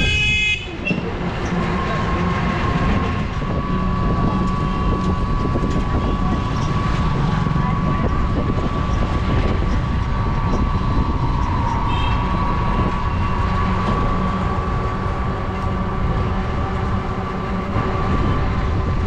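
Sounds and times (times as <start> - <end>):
road noise: 0.0 - 19.0
wind rumble on microphone: 0.0 - 19.0
steady high whine: 1.2 - 19.0.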